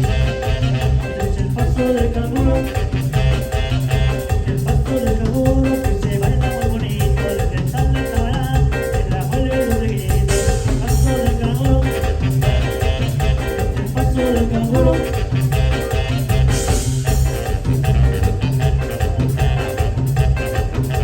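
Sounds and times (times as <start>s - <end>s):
band playing latin dance music: 0.0s - 21.0s.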